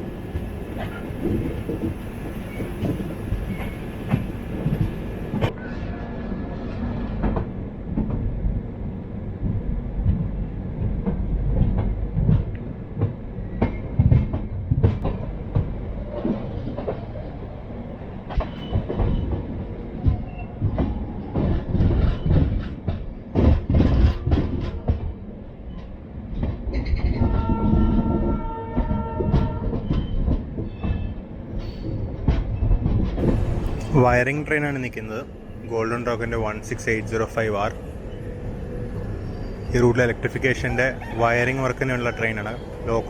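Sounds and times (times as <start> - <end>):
train wheels clattering on rails: 0.0 - 5.6, 9.4 - 17.3, 18.2 - 43.0.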